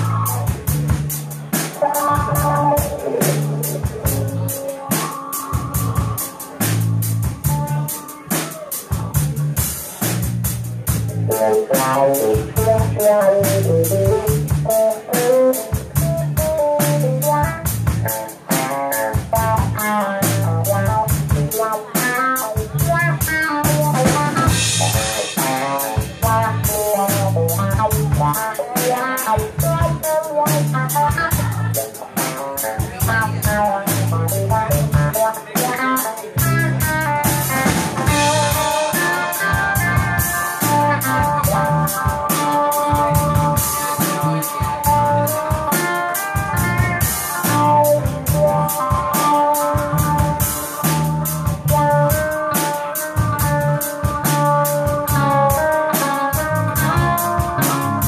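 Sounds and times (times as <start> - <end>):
drum kit beat: 0.0 - 58.0
electric guitar playing: 0.0 - 58.0.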